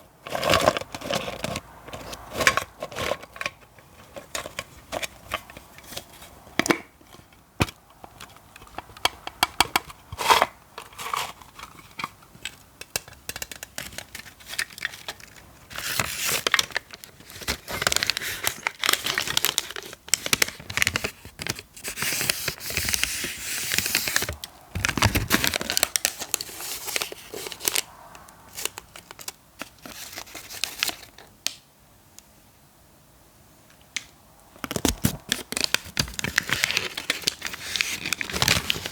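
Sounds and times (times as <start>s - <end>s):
crinkly scratching: 0.0s - 6.4s, 10.1s - 27.9s, 28.5s - 31.3s, 34.7s - 38.9s.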